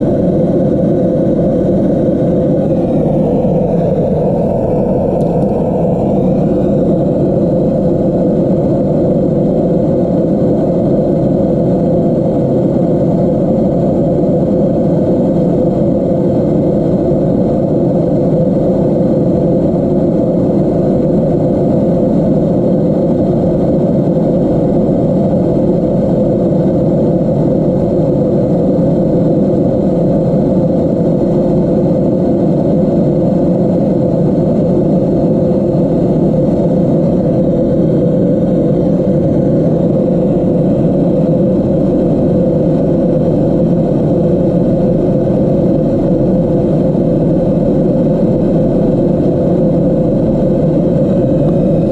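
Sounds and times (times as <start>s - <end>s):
refrigerator drone: 0.0s - 51.9s.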